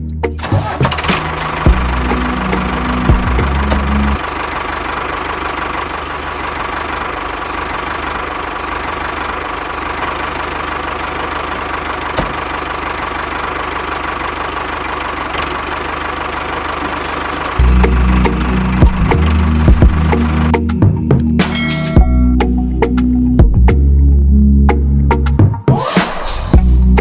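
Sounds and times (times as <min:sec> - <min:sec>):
tractor engine running: 0:00.0 - 0:25.4, 0:26.5 - 0:27.0.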